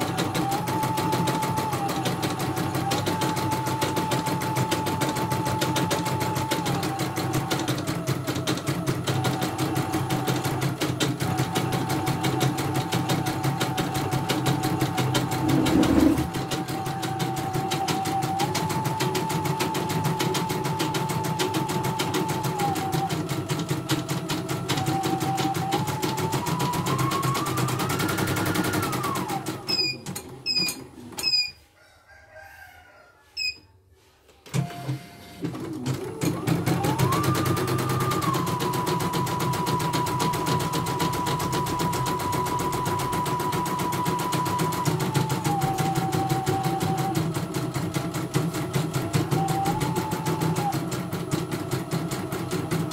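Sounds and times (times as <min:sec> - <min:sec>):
embroidery machine stitching: 0:00.0 - 0:31.5, 0:35.4 - 0:52.9.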